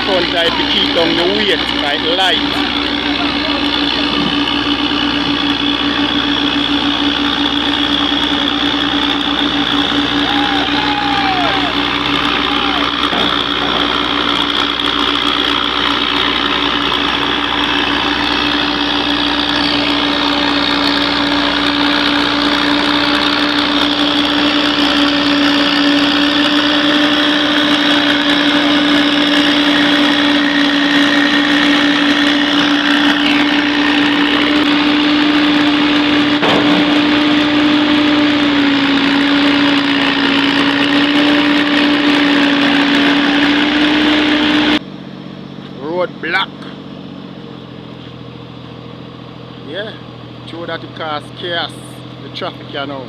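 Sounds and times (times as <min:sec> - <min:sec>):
high engine whine: 0:00.0 - 0:53.0
vehicle engine humming: 0:00.0 - 0:53.0.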